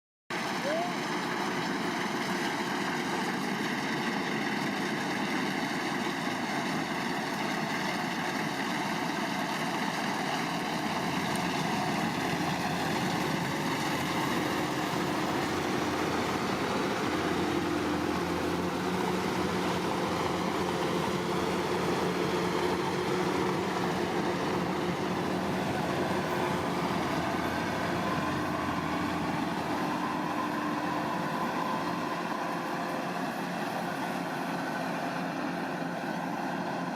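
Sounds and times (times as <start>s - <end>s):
combine harvester running: 0.3s - 36.9s.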